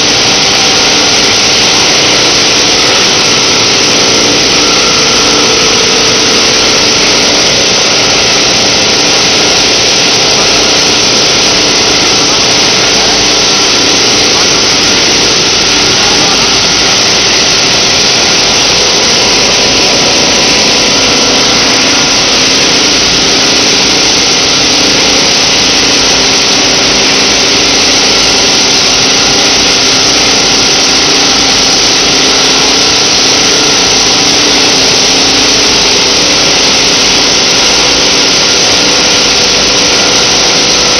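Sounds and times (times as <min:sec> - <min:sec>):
machinery running: 0:00.0 - 0:40.9.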